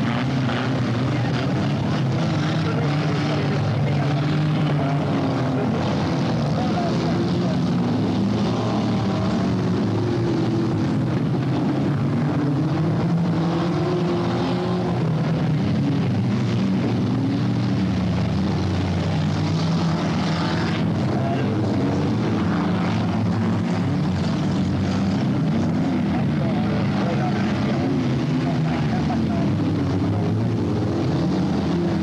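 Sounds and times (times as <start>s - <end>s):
racing car engines: 0.0s - 32.0s.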